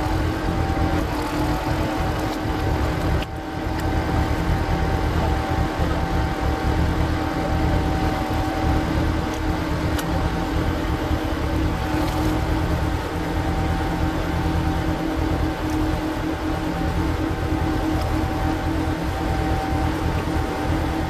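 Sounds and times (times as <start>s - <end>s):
tiller engine droning: 0.0s - 21.0s.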